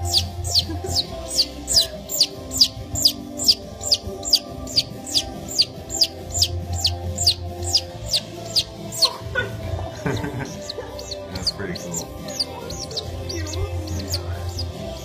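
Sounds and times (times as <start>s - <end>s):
baby chick peeping: 0.0s - 15.0s
soft background music: 0.0s - 15.0s.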